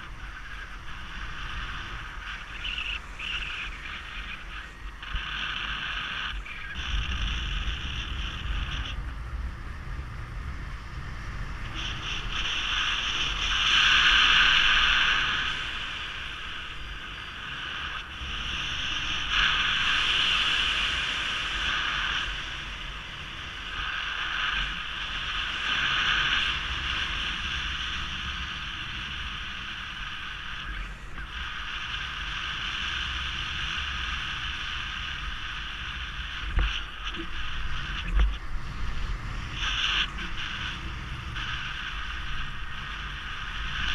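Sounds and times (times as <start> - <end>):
wind rushing past microphone: 0.0 - 43.9.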